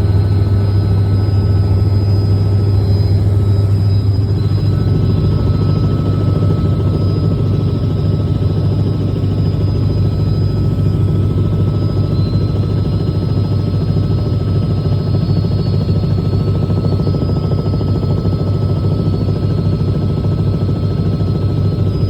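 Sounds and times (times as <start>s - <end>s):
helicopter rotor and engine drone: 0.0s - 22.0s
thin steady whine: 0.0s - 22.0s.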